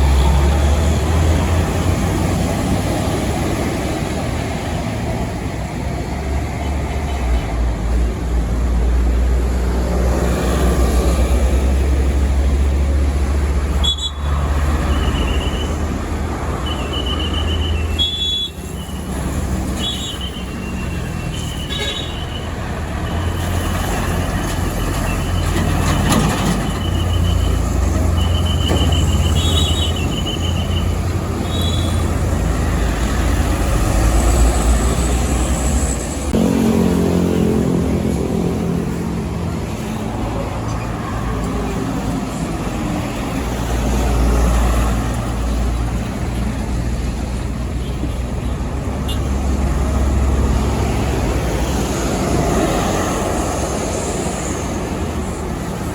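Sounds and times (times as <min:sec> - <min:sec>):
diesel trucks passing by: 0:00.0 - 0:55.9.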